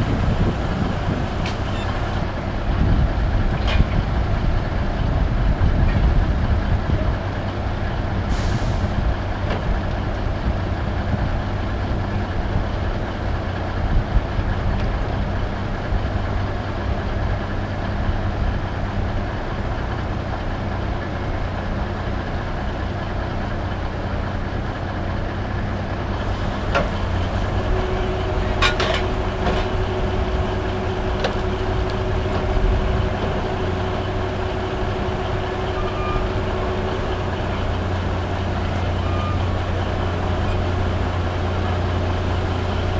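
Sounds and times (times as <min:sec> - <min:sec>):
diesel engines running: 0:00.0 - 0:42.9.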